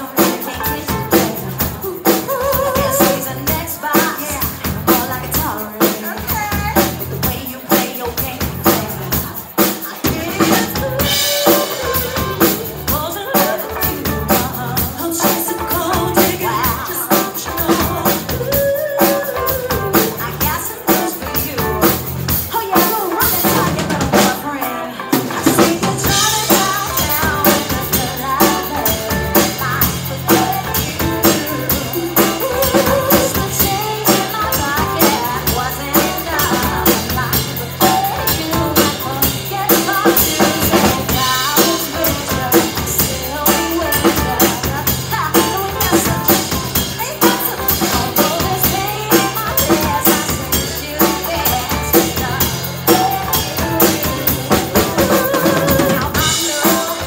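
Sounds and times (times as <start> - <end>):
drum kit beat: 0.0 - 57.0
electric guitar: 0.0 - 57.0
live band playing: 0.0 - 57.0
electric bass: 0.6 - 3.6, 4.5 - 5.5, 6.4 - 7.3, 8.3 - 9.3, 10.1 - 20.6, 21.3 - 22.5, 25.3 - 56.6.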